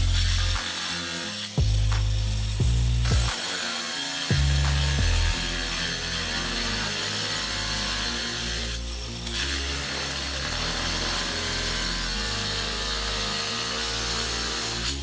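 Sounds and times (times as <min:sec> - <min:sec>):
angle grinder cutting tile: 0:00.0 - 0:15.0.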